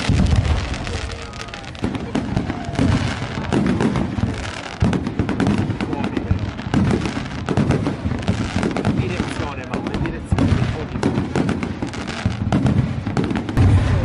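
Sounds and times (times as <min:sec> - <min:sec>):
fireworks booming: 0:00.0 - 0:14.0
fireworks crackling: 0:00.0 - 0:14.0.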